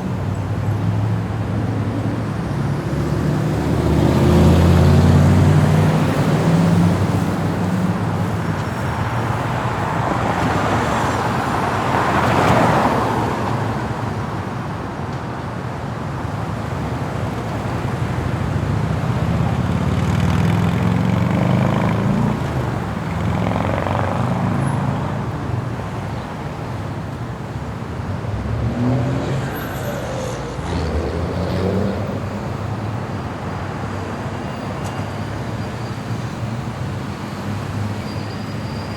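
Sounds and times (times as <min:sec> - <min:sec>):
city street traffic: 0:00.0 - 0:38.9
vehicles passing: 0:00.0 - 0:38.9.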